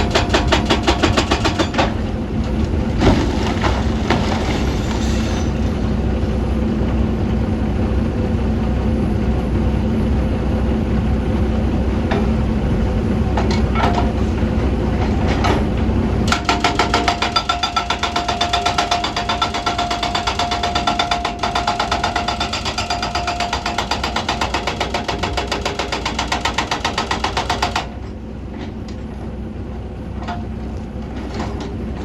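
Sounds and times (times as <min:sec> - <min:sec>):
excavator diesel engine running: 0:00.0 - 0:25.8.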